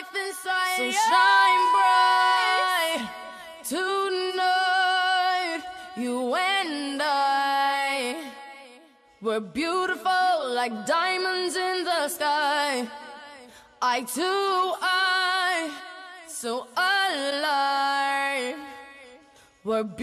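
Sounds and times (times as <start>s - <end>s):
woman singing pop music: 0.0s - 20.0s.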